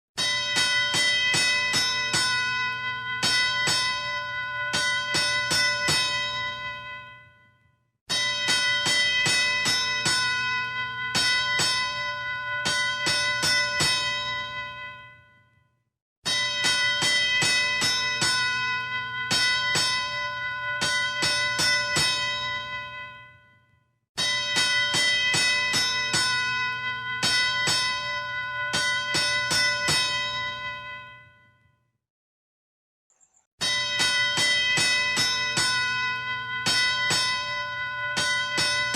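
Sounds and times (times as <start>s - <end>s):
boxing bell ringing: 0.2s - 31.8s, 33.2s - 38.9s.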